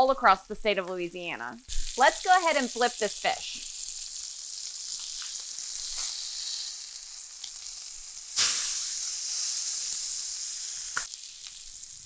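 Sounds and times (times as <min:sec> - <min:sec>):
fish sizzling in skillet: 0:01.6 - 0:12.0.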